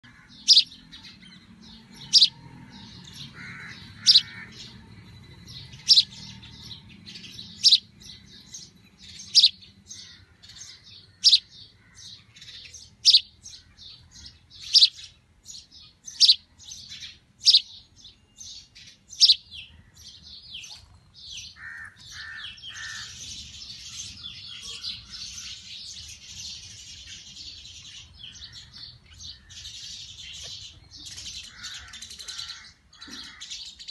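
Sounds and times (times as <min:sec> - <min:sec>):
sparrow chirping: 0:00.0 - 0:33.9.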